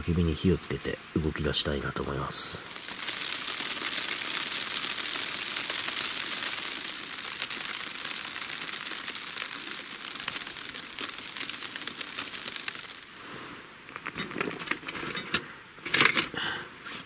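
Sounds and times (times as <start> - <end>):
falling snow hissing and ticking: 0.2 - 15.0.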